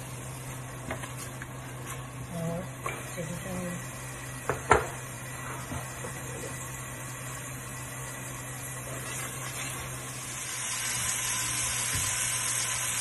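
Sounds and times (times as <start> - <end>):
oil sizzling in pot: 0.0 - 13.0.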